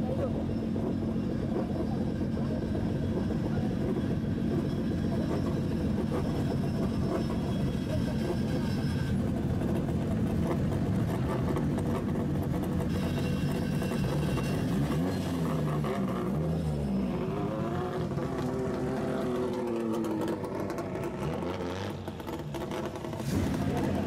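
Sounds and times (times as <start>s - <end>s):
car engine and exhaust rumble: 0.0s - 24.0s.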